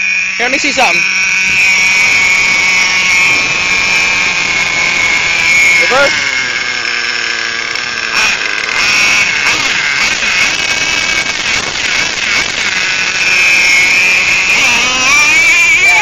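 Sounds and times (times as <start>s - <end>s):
small nitro engine whine: 0.0s - 16.0s.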